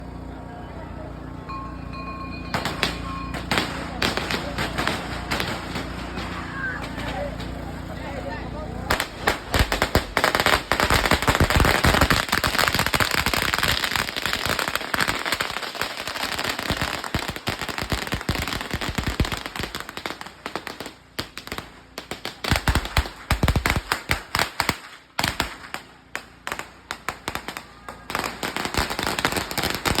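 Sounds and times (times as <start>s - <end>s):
firecrackers crackling: 1.8s - 30.0s
loud firecracker bangs: 2.5s - 7.8s, 8.9s - 30.0s.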